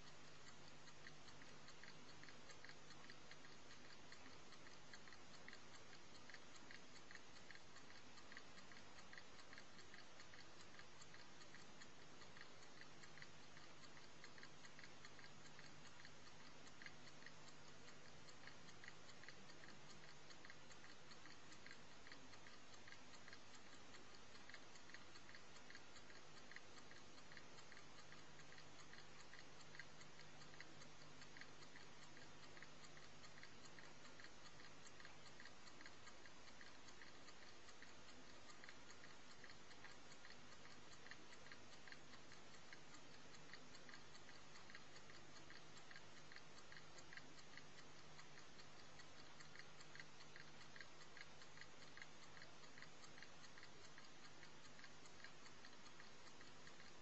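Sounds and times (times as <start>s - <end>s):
clock ticking: 0.0s - 57.0s
tape hiss: 0.0s - 57.0s.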